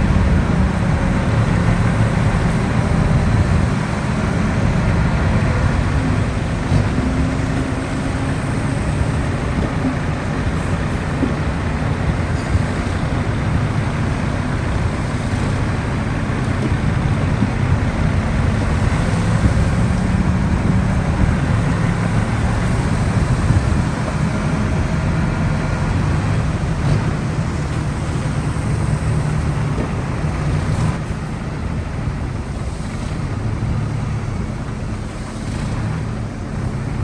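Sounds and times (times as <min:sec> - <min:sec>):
heavy diesel machine engine: 0:00.0 - 0:37.0.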